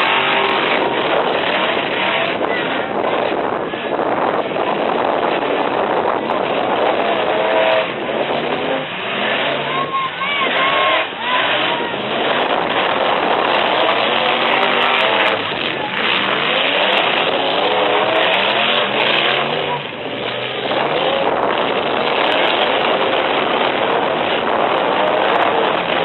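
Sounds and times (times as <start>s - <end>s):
truck engines revving hard: 0.0s - 26.0s.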